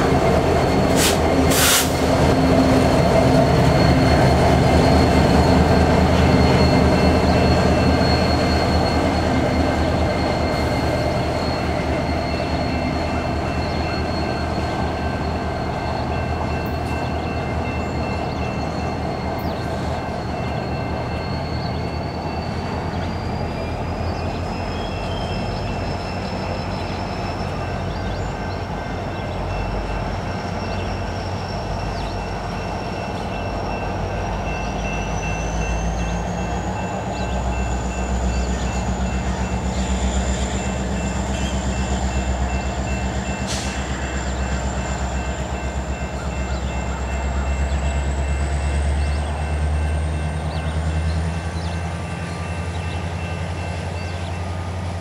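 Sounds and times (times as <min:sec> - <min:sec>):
diesel locomotive engine hum: 0:00.0 - 0:55.0.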